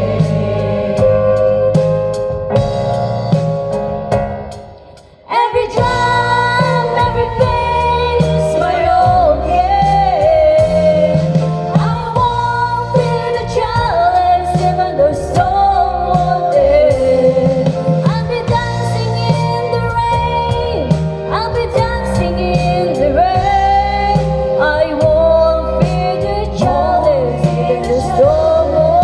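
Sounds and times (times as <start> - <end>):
instrumental accompaniment with bass and drums: 0.0 - 29.0
woman singing gospel: 5.3 - 29.0.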